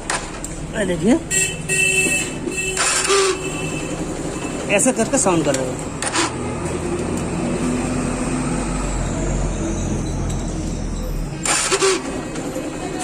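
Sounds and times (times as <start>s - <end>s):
starter motor noise: 2.0s - 13.0s.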